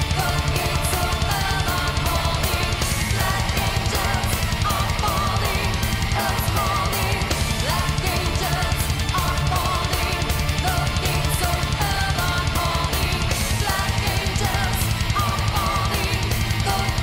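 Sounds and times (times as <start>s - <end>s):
distorted electric guitars: 0.0s - 17.0s
fast drumming: 0.0s - 17.0s.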